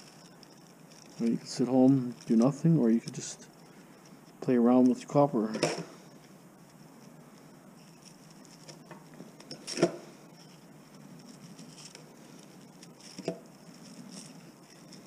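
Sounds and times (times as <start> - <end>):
wire rustling: 0.0 - 15.0.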